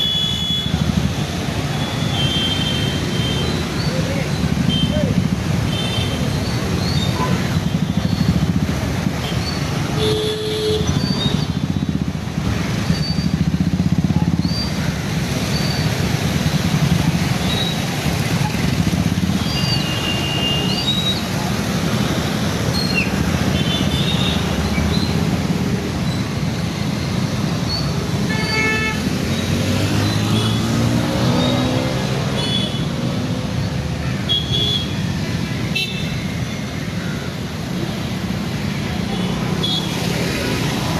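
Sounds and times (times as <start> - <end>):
rumble of passing cars: 0.7 - 10.0, 10.8 - 40.9.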